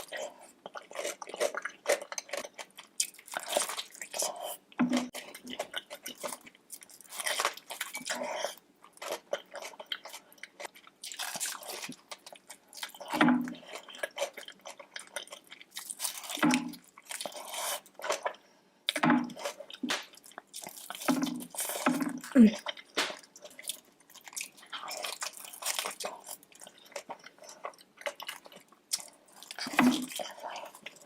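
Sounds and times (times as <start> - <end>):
crunching and chewing food: 0.0 - 31.0.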